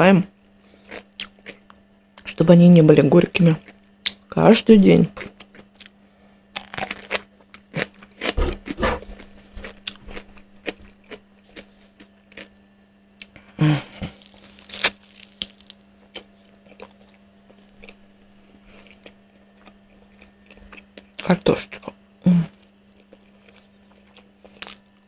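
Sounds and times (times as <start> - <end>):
faint steady hum: 0.0 - 25.0
crunchy bites and chewing: 0.7 - 1.8, 5.2 - 12.6, 13.2 - 25.0.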